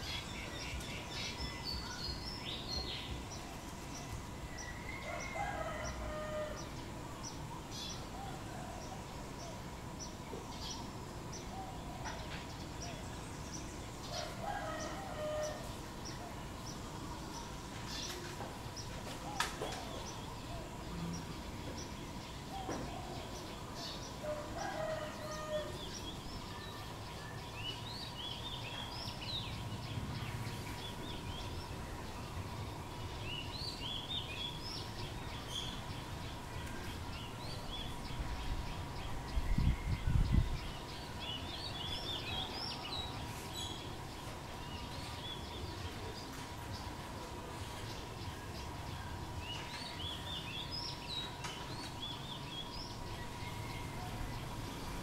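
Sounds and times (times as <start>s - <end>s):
bird chirping: 0.0s - 47.0s.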